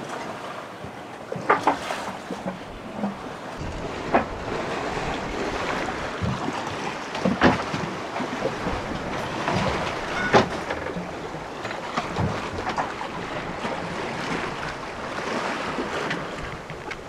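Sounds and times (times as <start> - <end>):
rough sea splashing along hull: 0.0 - 17.0
wind: 0.0 - 17.0.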